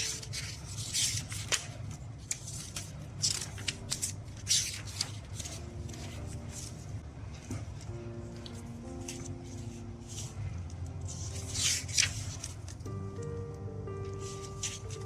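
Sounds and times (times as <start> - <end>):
paper pages flipping and rustling: 0.0 - 12.9, 14.0 - 15.0.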